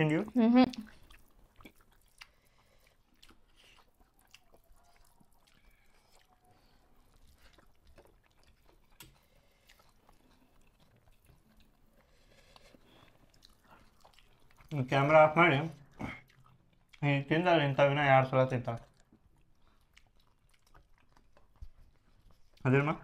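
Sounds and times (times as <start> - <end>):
faint chewing: 0.0 - 23.0.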